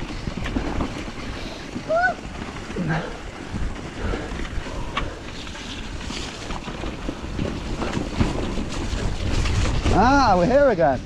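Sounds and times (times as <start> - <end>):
bike knocking over bumps: 0.0 - 10.6
tyres rolling over wet dirt: 0.0 - 11.0
wind buffeting microphone: 0.0 - 11.0.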